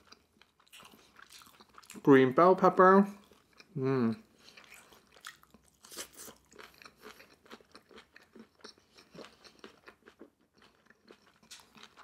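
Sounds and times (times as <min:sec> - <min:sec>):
person chewing crunchy food: 0:00.0 - 0:02.1, 0:03.2 - 0:12.0.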